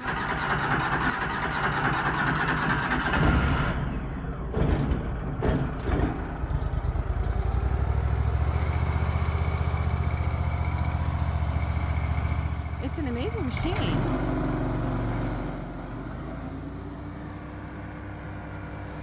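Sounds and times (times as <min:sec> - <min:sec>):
chipper shredder engine running: 0:00.0 - 0:03.9, 0:06.4 - 0:19.0.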